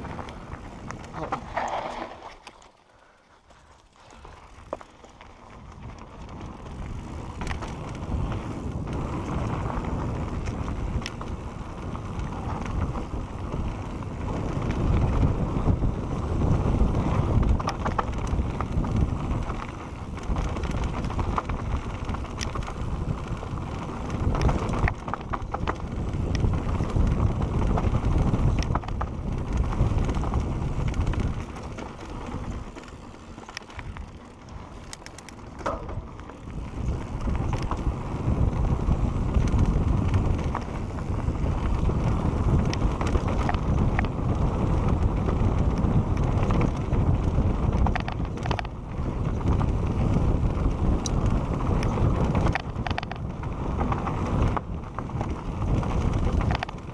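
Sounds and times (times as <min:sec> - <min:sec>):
wind rushing over microphone: 0:00.0 - 0:02.8, 0:05.5 - 0:56.9
bike clicks and rattles: 0:00.0 - 0:56.9
bike tyres rolling over dirt: 0:00.0 - 0:56.9.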